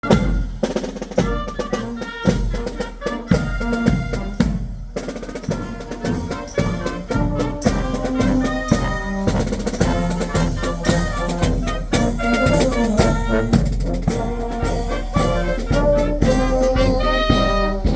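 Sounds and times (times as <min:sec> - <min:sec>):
brass band playing: 0:00.0 - 0:17.9
drum strokes: 0:00.0 - 0:17.9.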